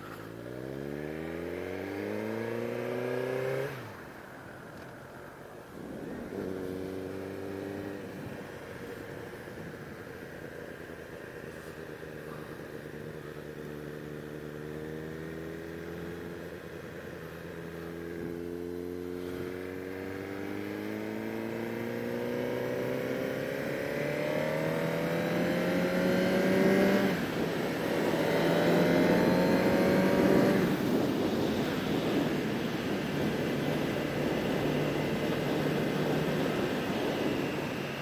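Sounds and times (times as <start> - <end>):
motorbike engine accelerating: 0.0 - 4.2, 5.7 - 38.0.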